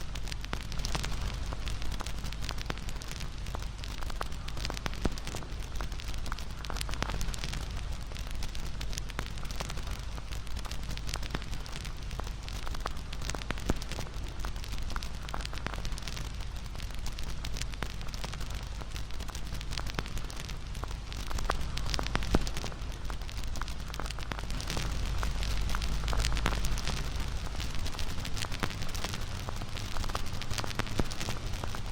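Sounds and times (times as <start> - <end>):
low rumble of flames: 0.0 - 31.9
sharp pops of fire: 0.0 - 31.9
wood fire crackling: 0.0 - 31.9.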